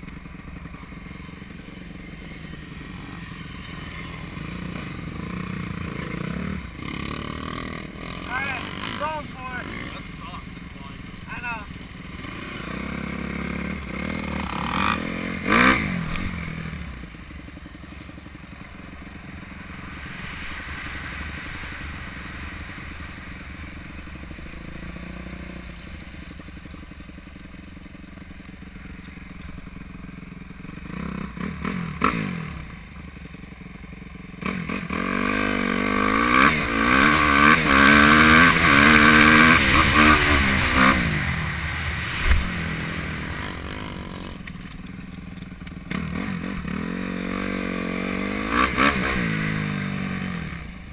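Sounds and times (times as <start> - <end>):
dirt bike engine revving: 0.0 - 28.9, 29.6 - 32.8, 34.4 - 44.9, 45.7 - 50.9.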